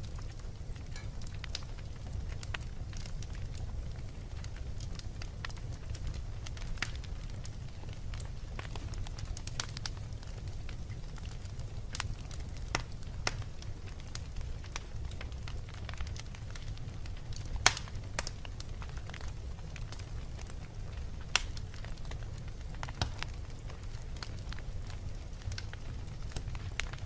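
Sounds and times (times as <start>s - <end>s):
fire crackling and popping: 0.0s - 27.0s
fire flames rumbling: 0.0s - 27.0s.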